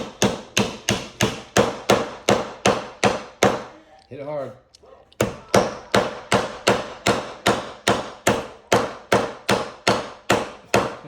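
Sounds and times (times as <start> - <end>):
hammer striking nail into wood: 0.0 - 3.7, 5.2 - 11.0.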